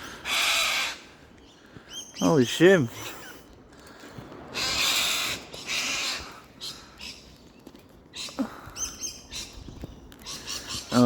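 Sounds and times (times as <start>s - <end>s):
harsh screeching bird calls: 0.0s - 3.4s, 4.4s - 11.0s.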